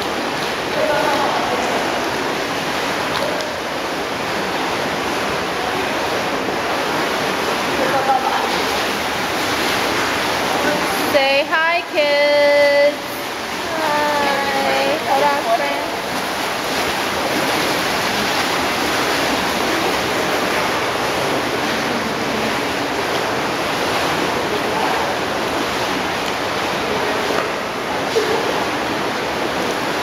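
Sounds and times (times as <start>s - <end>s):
hot tub jets churning water: 0.0s - 30.0s.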